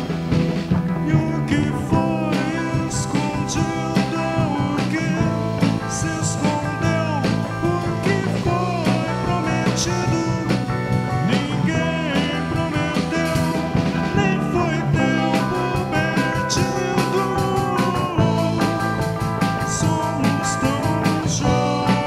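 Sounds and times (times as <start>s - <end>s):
bass guitar: 0.0s - 22.0s
drum kit with cymbals: 0.0s - 22.0s
electric guitar with bent notes: 0.0s - 22.0s.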